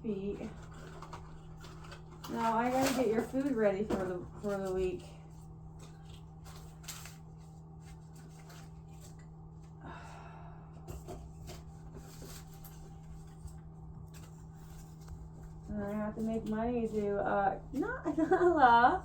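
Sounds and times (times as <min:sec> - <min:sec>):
rustling of things being handled: 0:00.0 - 0:19.0
steady low hum: 0:00.0 - 0:19.0.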